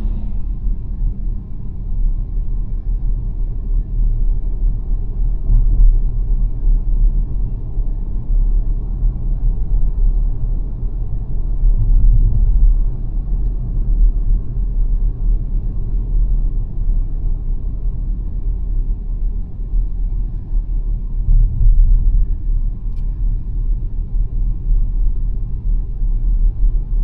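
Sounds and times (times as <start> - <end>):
road and tyre rumble: 0.0 - 27.0.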